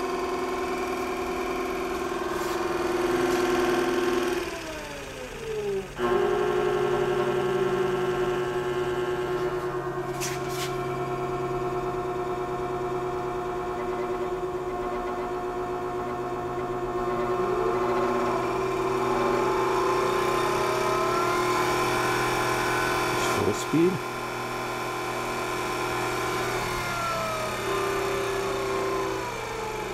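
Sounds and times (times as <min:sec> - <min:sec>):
belt sander motor whine: 0:00.0 - 0:29.9.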